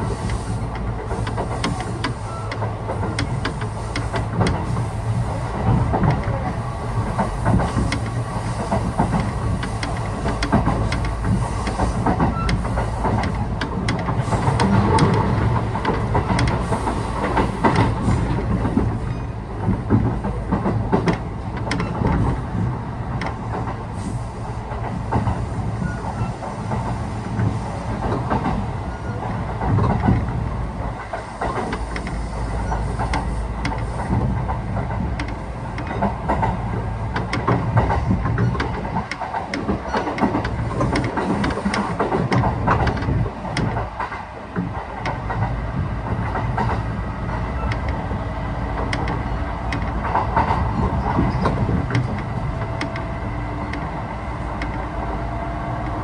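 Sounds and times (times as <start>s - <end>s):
train rumbling at speed: 0.0s - 56.0s
wheels clicking over rail joints: 0.0s - 56.0s.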